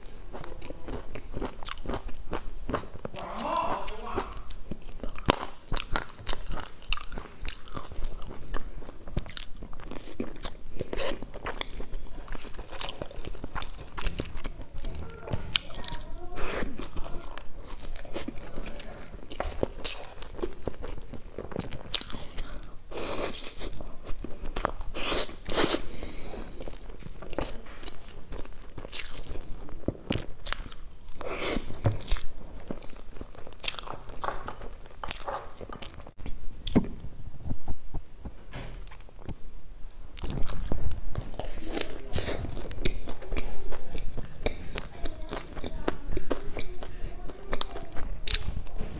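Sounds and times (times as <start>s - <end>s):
chewing: 0.0s - 48.9s.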